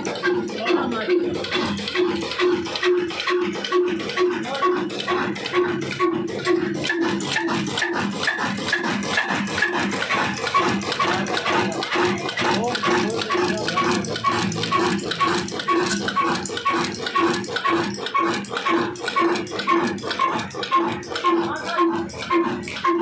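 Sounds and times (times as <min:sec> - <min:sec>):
stationary diesel engine knocking: 0:00.0 - 0:23.0
valve gear clattering: 0:00.0 - 0:23.0.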